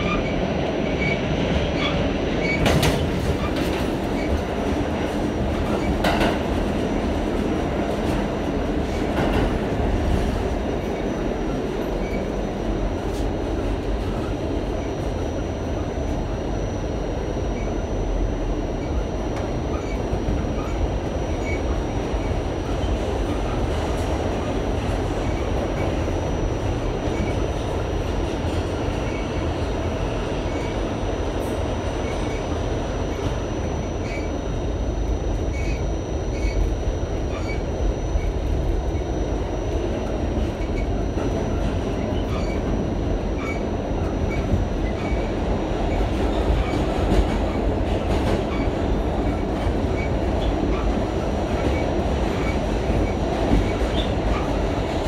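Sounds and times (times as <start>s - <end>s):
wheels rumbling on rail: 0.0s - 55.0s
high steady whine: 2.6s - 55.0s.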